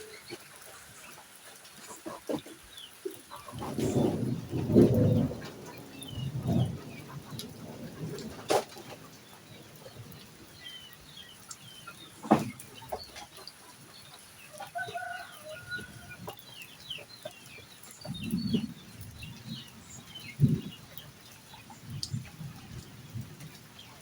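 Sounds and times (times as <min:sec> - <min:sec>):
chicks peeping: 0:00.0 - 0:22.8
chickens clucking: 0:00.0 - 0:24.0.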